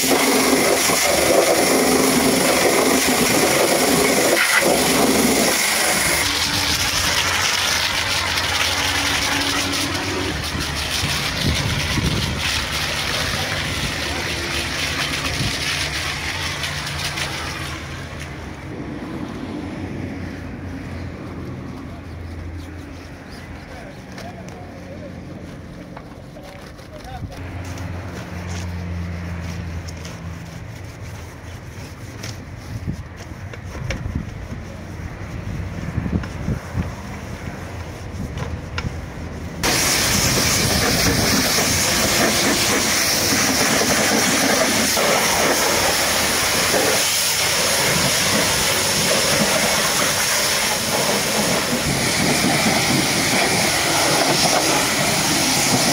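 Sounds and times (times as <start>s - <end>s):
water jet spraying tyres: 0.0s - 55.9s.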